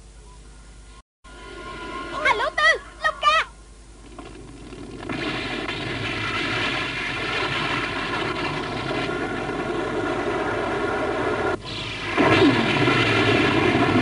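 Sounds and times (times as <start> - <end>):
rushing noise: 1.3 - 3.0, 4.4 - 14.0.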